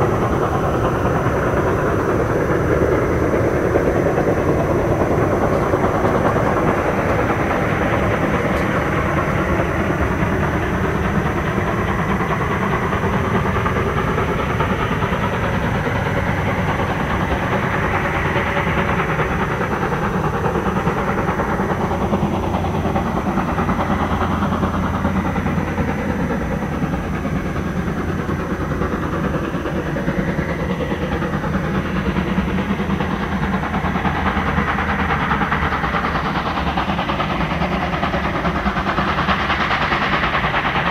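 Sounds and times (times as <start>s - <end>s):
rail noise: 0.0s - 40.9s
steam locomotive running: 0.0s - 40.9s.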